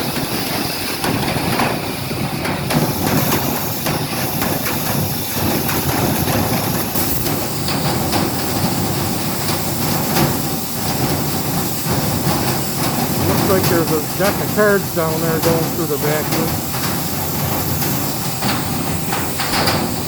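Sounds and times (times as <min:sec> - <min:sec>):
industrial vacuum rushing air: 0:00.0 - 0:20.0.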